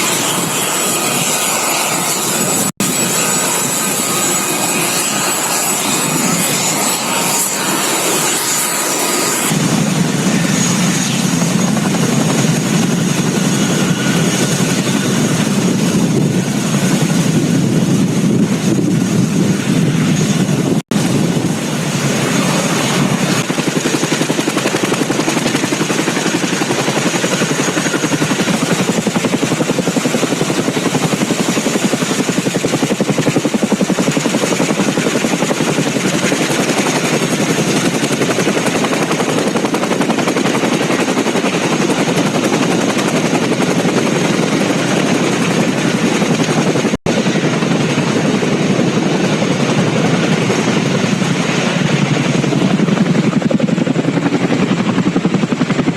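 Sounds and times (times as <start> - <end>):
helicopter rotors chopping: 0.0 - 55.9.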